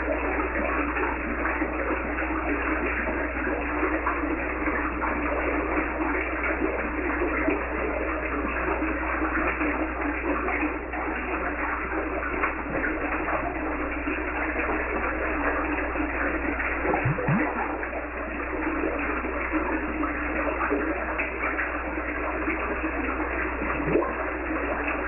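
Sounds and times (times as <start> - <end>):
rushing bubbling water: 0.0 - 25.0.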